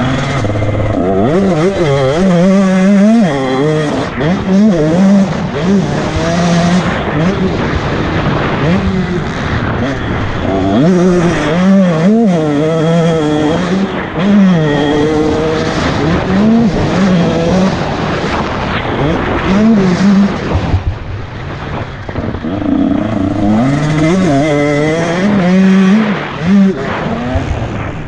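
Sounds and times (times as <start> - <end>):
motocross bike engine revving: 0.0 - 28.0.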